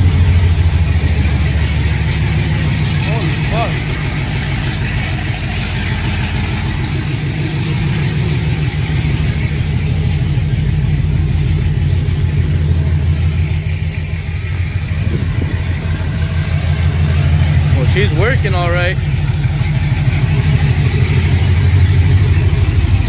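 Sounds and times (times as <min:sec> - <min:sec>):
car engine idling loudly: 0:00.0 - 0:23.0.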